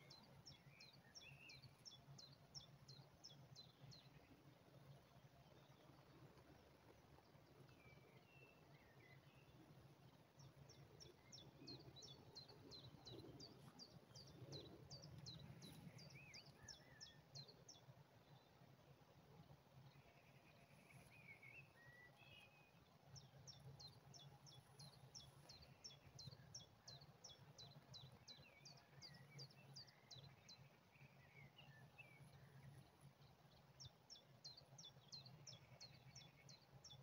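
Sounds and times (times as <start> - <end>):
birds chirping softly: 0.0 - 37.0
faint low hum: 0.0 - 37.0.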